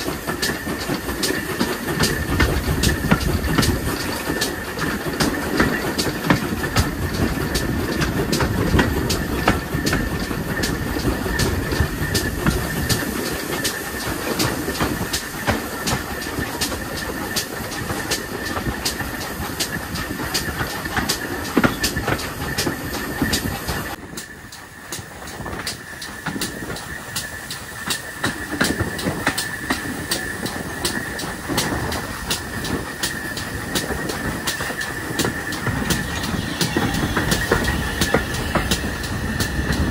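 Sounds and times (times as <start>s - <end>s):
train wheels rattling and clicking: 0.0s - 39.9s.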